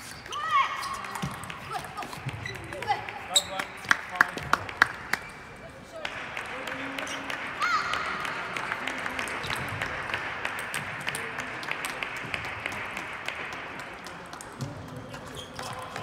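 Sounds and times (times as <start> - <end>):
applause: 0.9 - 16.0.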